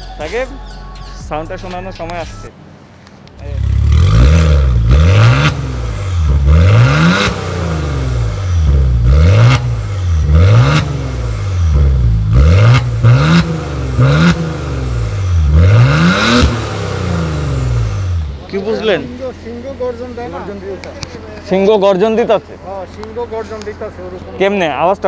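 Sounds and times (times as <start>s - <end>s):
car engine revving: 3.4s - 24.9s.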